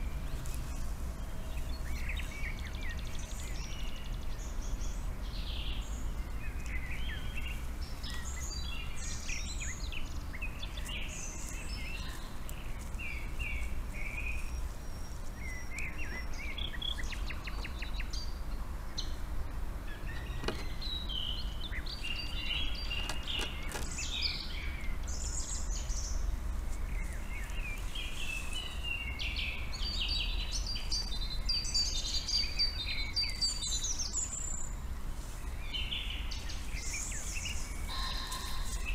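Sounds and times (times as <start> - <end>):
songbirds chirping and trilling: 0.0 - 38.9
steady low rumble: 0.0 - 38.9.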